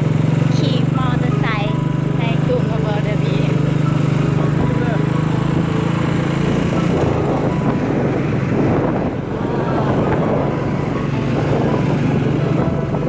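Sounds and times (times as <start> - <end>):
motorcycle engine running: 0.0 - 13.0
road noise: 0.0 - 13.0
wind buffeting microphone: 0.0 - 13.0.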